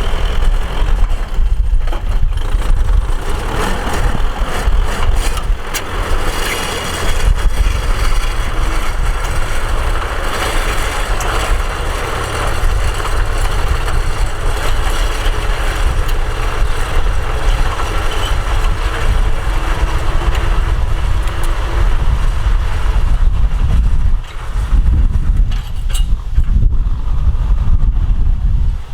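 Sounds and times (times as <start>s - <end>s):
tractor engine rumbling: 0.0s - 28.9s.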